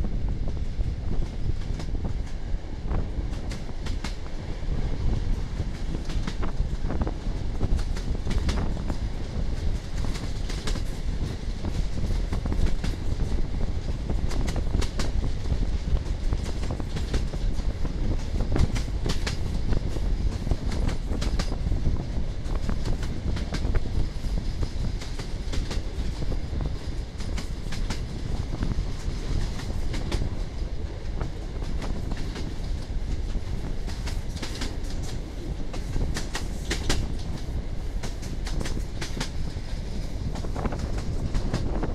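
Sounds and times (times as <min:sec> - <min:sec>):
steady low train rumble: 0:00.0 - 0:41.9.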